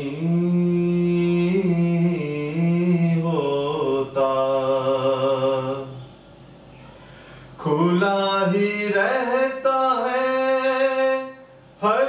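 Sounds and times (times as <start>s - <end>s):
man chanting unaccompanied: 0.0s - 6.1s, 7.6s - 12.0s.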